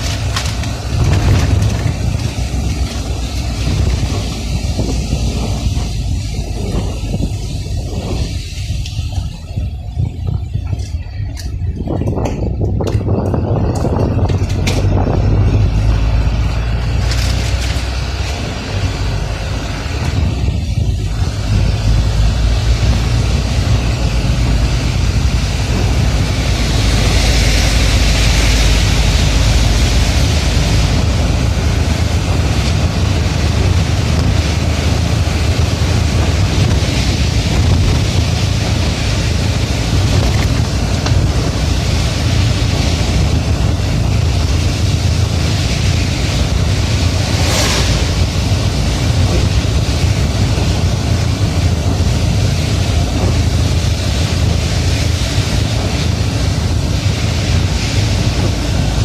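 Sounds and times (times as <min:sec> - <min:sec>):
steady rain hissing: 0:00.0 - 0:11.8, 0:15.5 - 0:59.0
deep vehicle rumble: 0:00.0 - 0:59.0.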